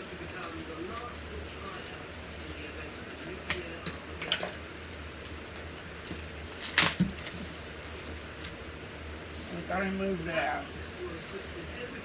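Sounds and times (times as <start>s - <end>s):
low steady hum: 0.0s - 12.0s
packaging rustling: 0.0s - 12.0s.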